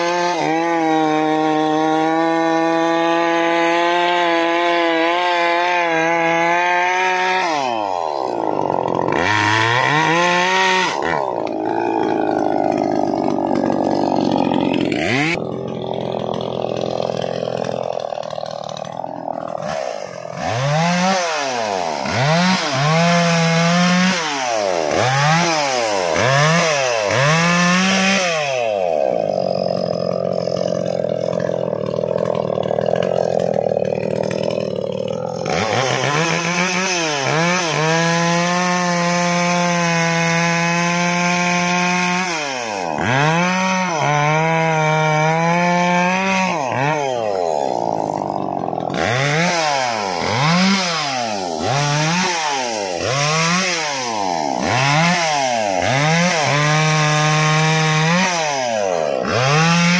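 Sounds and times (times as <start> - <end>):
chainsaw cutting log: 0.0 - 59.9
chainsaw revving: 0.0 - 59.9.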